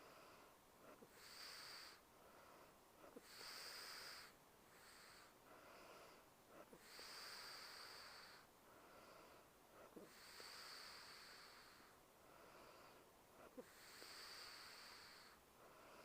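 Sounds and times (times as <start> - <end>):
woman breathing softly in sleep: 0.0 - 16.0.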